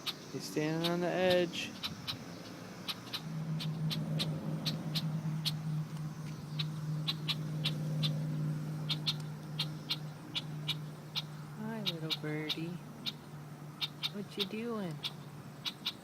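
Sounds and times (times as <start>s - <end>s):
birds giving alarm calls: 0.0s - 16.0s
steady low hum: 0.0s - 16.0s.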